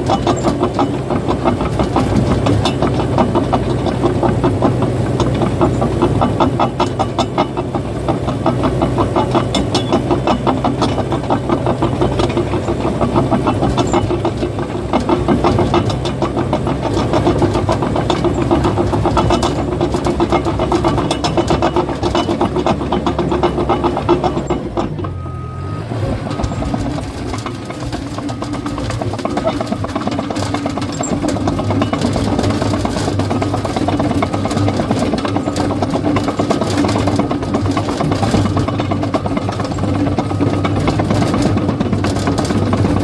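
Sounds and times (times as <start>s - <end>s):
bulldozer diesel engine: 0.0s - 43.0s
steel tracks clanking: 0.0s - 43.0s.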